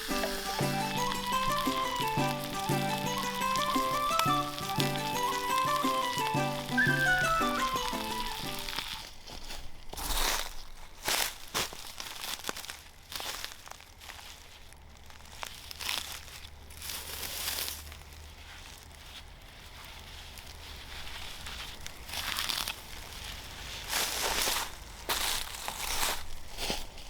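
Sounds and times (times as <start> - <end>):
rustling and crinkling: 0.0 - 27.0.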